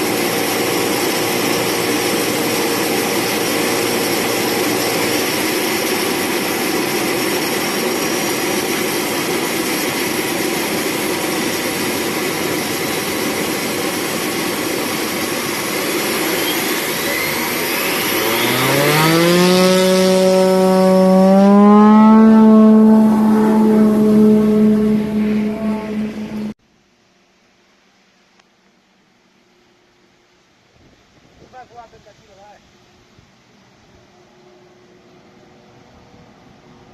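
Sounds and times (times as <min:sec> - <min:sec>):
turboprop engine and propeller: 0:00.0 - 0:26.6, 0:29.6 - 0:36.9.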